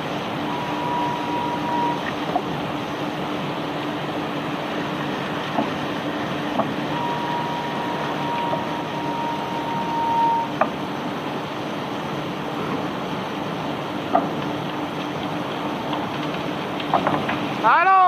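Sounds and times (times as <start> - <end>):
conveyor belt humming: 0.0 - 18.0
high steady whine: 0.0 - 18.0.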